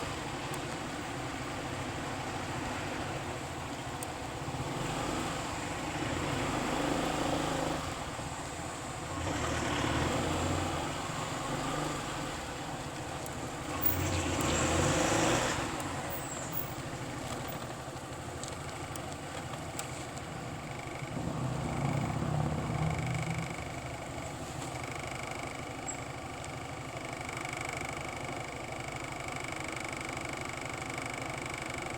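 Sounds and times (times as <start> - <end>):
vehicles passing: 0.0 - 28.0
engine hum: 0.0 - 31.9
road and wind noise: 0.0 - 31.9.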